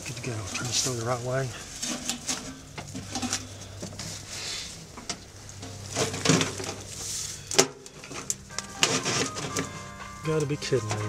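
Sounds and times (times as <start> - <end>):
metal pipe scraping and knocking: 0.0 - 4.2, 4.9 - 11.0.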